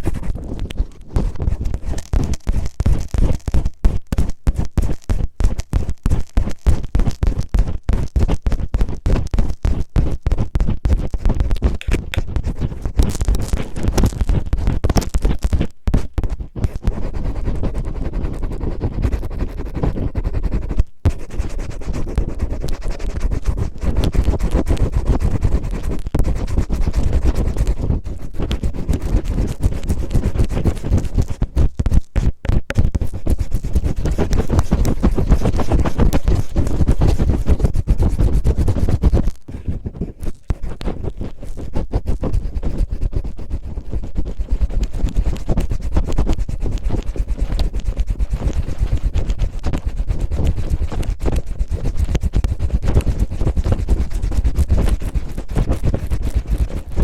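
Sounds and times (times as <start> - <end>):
cellophane rubbing on microphone: 0.0 - 57.0.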